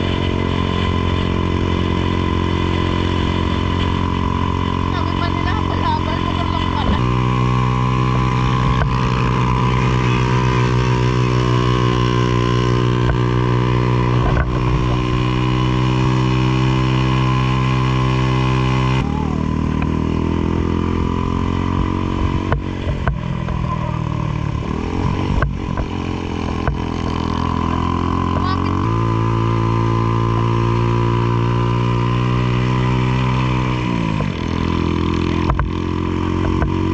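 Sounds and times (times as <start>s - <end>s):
engine running: 0.0s - 36.9s
engine slowing down: 0.0s - 36.9s.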